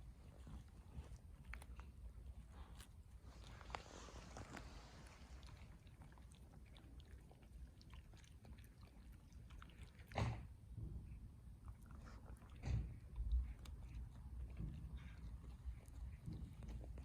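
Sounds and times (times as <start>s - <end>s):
dog chewing grass: 0.0s - 17.0s.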